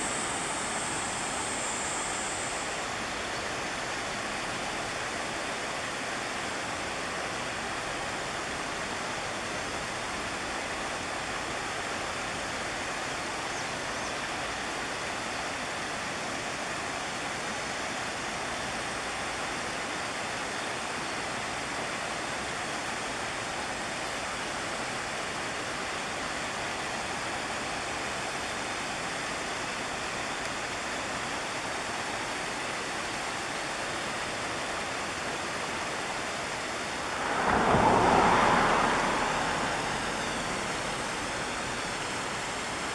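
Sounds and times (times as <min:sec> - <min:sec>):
river rapids rushing over stones: 0:00.0 - 0:42.9.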